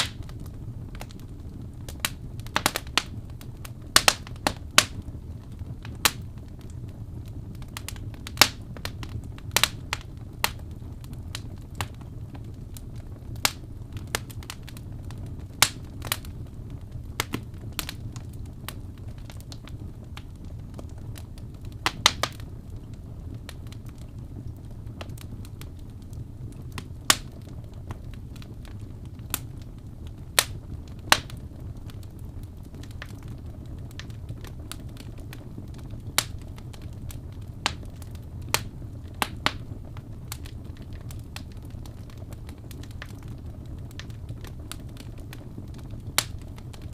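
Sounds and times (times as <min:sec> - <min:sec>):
steady low hum: 0:00.0 - 0:46.9
wood fire crackling: 0:00.0 - 0:46.9.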